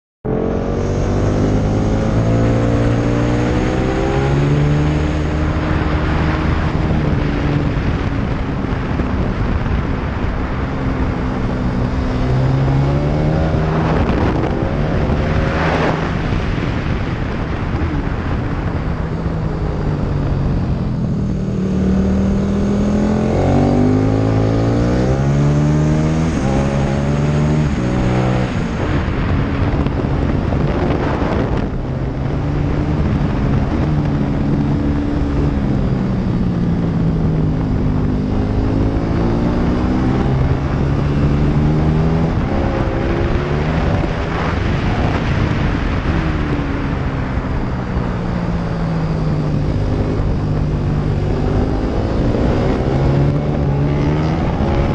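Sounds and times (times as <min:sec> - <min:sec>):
motorcycle engine accelerating: 0:00.2 - 0:54.9
wind rush on microphone: 0:00.3 - 0:54.9.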